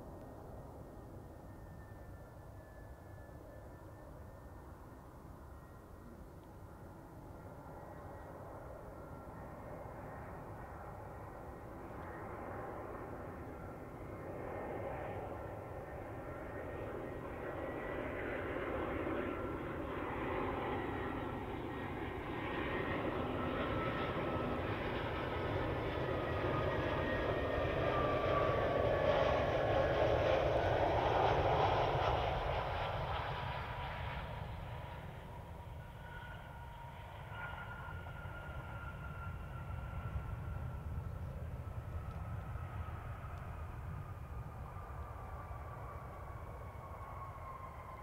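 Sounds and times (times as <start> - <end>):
jet engines rumbling and whining: 0.0 - 48.0.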